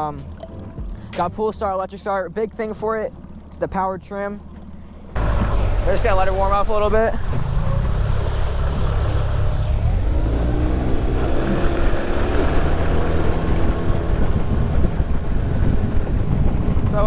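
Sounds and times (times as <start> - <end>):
outboard motor running: 0.0 - 17.0
wind buffeting microphone: 0.8 - 17.0.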